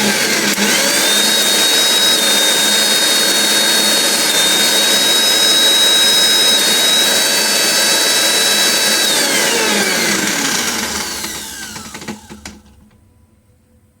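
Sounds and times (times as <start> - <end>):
mixer grinder motor whining: 0.0 - 13.1.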